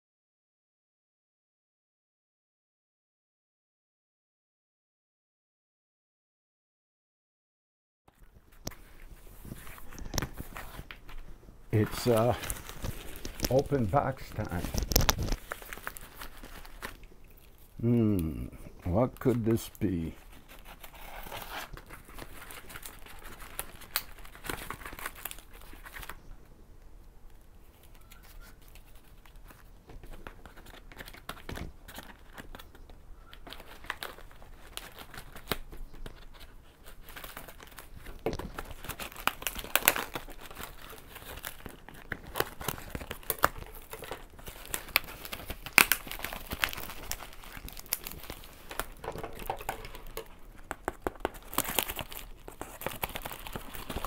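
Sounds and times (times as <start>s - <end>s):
packaging tearing and crinkling: 8.1s - 26.2s, 27.3s - 54.0s.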